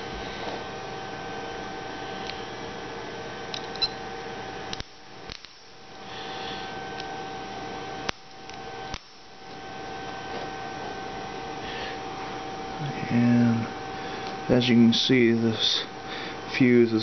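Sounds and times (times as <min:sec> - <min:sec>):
electrical hum with whine: 0:00.0 - 0:17.0.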